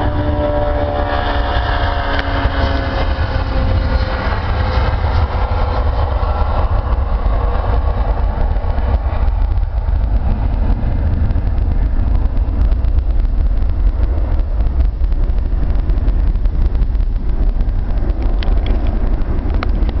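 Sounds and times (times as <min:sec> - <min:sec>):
jet engines rumbling: 0:00.0 - 0:20.0
wind buffeting microphone: 0:00.0 - 0:20.0.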